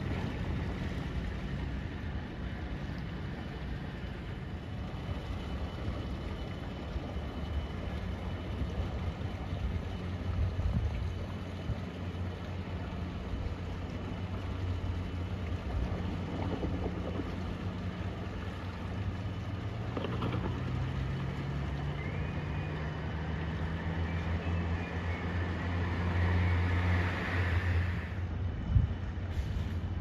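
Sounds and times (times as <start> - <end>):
ferry diesel engines droning: 0.0 - 30.0.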